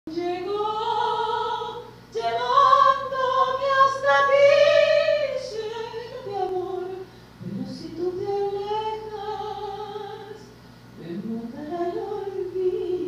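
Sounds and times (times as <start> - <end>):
woman singing into microphone: 0.1 - 13.0.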